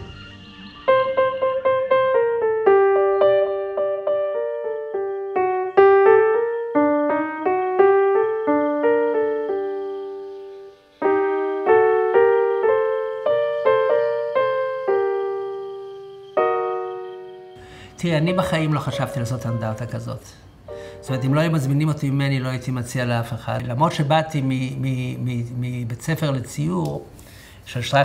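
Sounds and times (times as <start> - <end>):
slow piano melody: 0.0 - 25.6.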